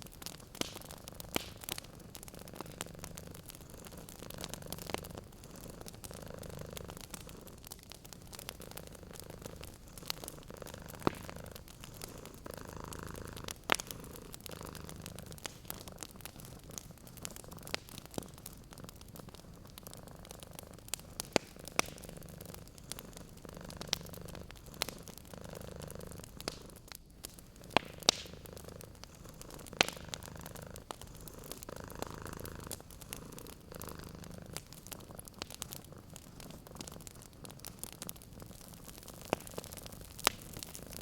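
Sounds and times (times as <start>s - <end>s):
cat purring: 0.0s - 41.0s
wood fire crackling and popping: 0.0s - 41.0s.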